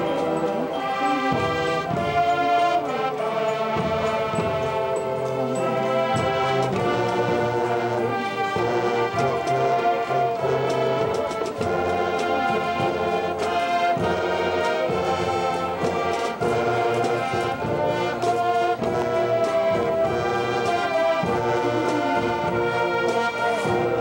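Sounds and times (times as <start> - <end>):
marching band playing brass chords: 0.0 - 24.0.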